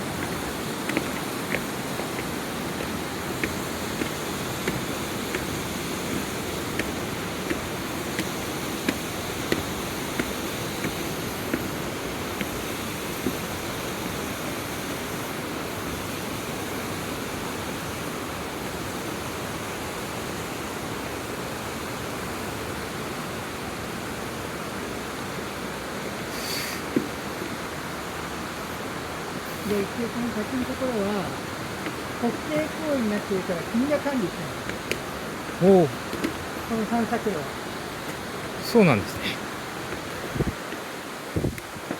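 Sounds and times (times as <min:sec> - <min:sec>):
stream and waterfall rushing: 0:00.0 - 0:41.9.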